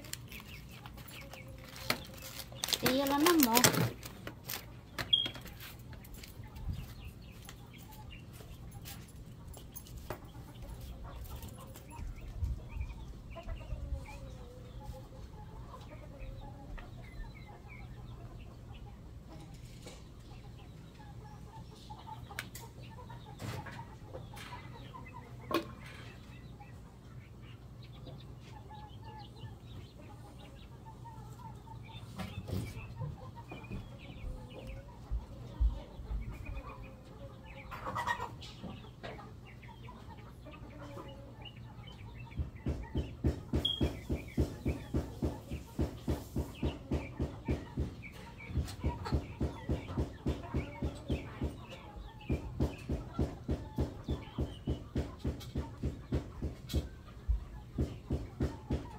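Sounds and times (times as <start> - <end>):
chickens clucking: 0.0 - 58.9.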